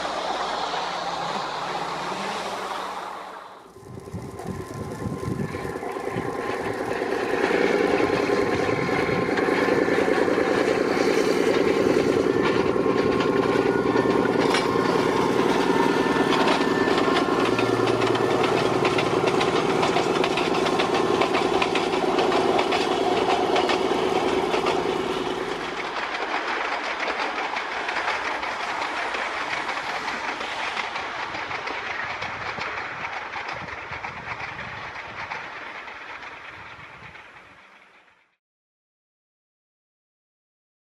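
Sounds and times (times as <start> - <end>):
diesel locomotive engine hum: 0.0 - 38.4
train wheels rolling on track: 0.0 - 38.4.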